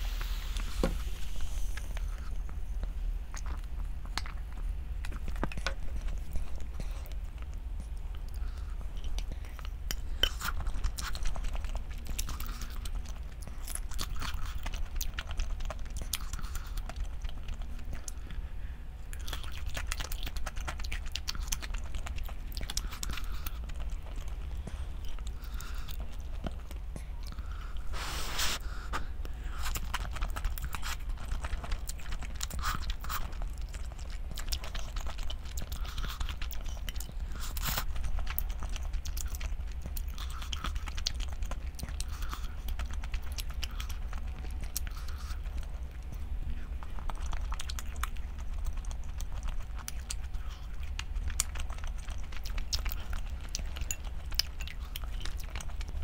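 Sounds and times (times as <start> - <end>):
steady low hum: 0.0 - 56.0
person chewing and biting: 1.7 - 18.4, 19.1 - 56.0.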